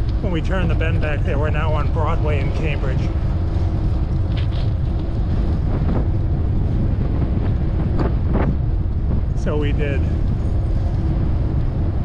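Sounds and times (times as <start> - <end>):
street and traffic noise: 0.0 - 12.0
wind rumble on microphone: 0.0 - 12.0.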